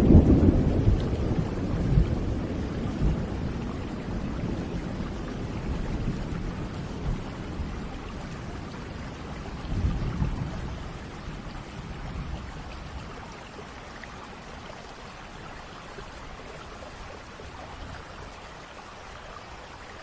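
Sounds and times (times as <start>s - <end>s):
low roll of thunder: 0.0s - 18.4s
steady rain: 0.0s - 20.0s.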